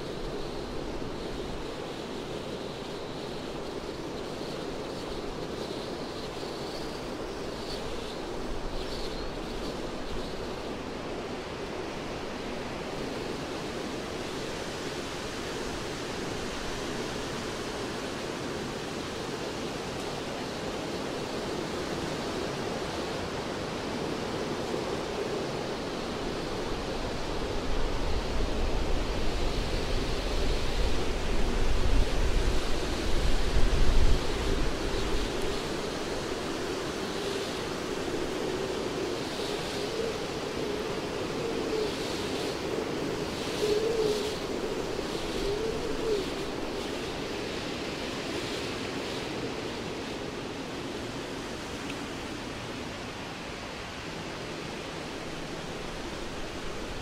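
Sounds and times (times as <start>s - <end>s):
wind rushing through treetops: 0.0s - 57.0s.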